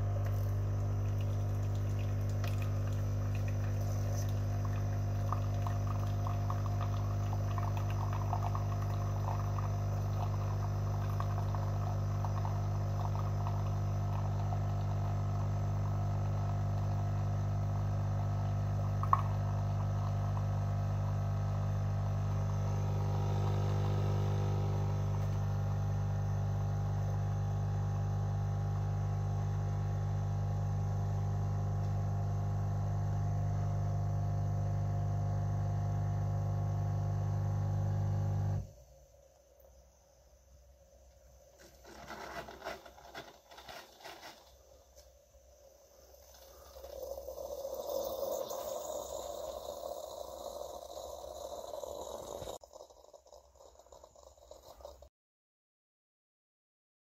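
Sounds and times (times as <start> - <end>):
coffee streaming into mug: 0.0 - 38.6, 41.6 - 55.1
coffee machine pump humming: 0.0 - 39.9, 40.6 - 55.1.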